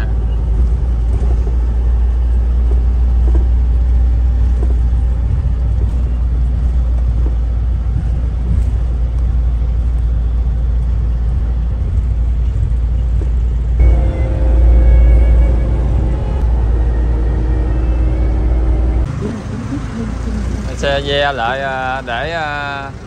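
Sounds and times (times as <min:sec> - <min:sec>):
coach engine rumble: 0:00.0 - 0:23.0.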